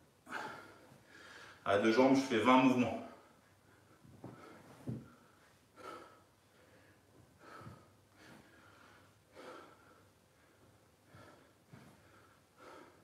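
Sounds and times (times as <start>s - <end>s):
man breathing faintly: 0.2s - 1.7s, 3.1s - 13.0s.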